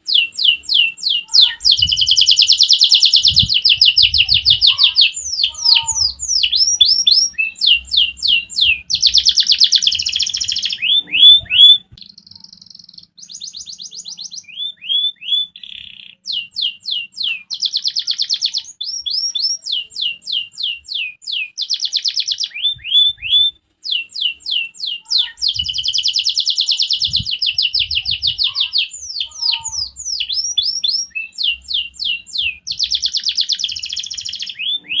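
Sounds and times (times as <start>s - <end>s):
canary singing trills and whistles: 0.0s - 35.0s.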